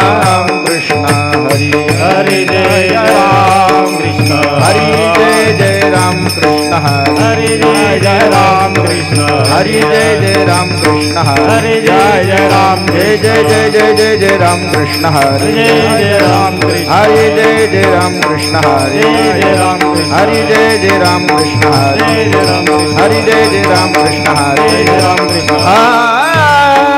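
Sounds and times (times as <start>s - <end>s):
hand cymbals: 0.0s - 26.9s
voices singing devotional chant: 0.0s - 26.9s.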